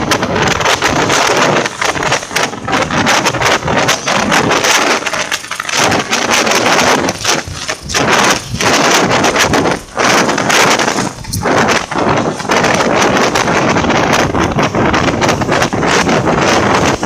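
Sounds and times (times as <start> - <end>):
train carriage rattling and clattering: 0.0 - 17.0
wind buffeting microphone: 0.0 - 17.0.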